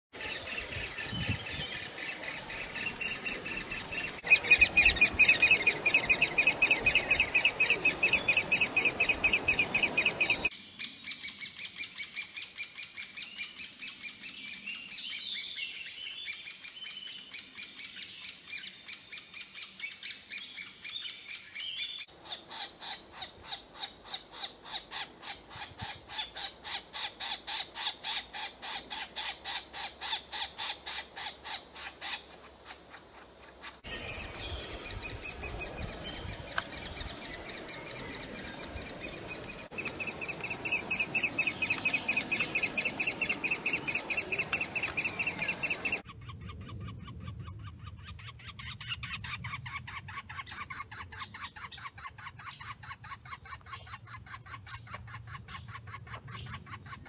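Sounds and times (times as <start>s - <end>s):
woodpecker chicks begging calls: 0.2s - 10.5s, 21.5s - 57.0s.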